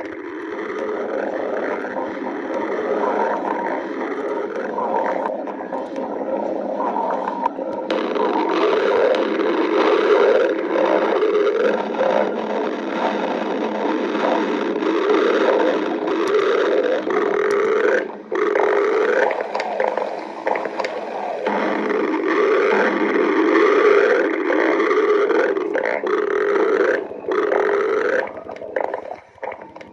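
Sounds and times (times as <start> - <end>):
stomach growling: 0.0 - 29.9.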